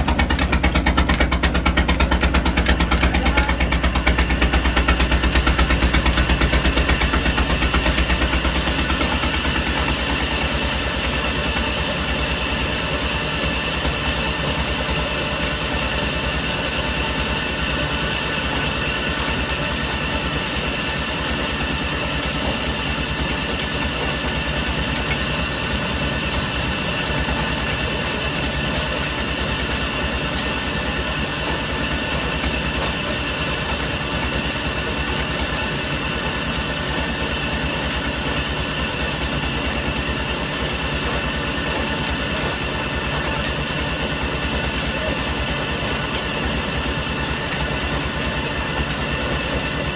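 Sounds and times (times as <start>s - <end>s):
sawmill machinery drone: 0.0s - 49.9s.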